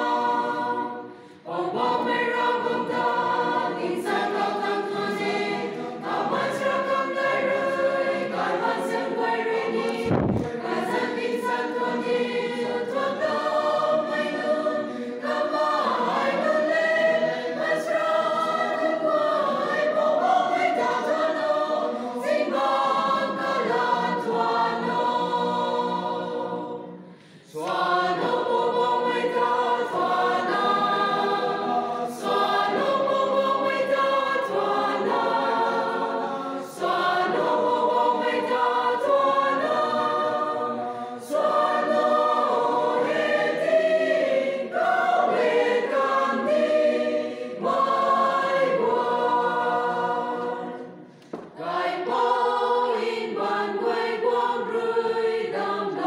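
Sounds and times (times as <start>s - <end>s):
choir singing gospel: 0.0s - 56.0s.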